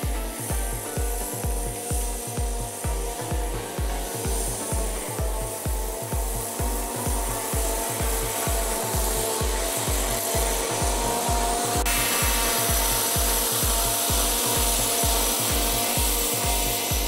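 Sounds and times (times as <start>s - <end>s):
low beat of music: 0.0s - 17.0s
mower cutting grass: 0.0s - 17.0s.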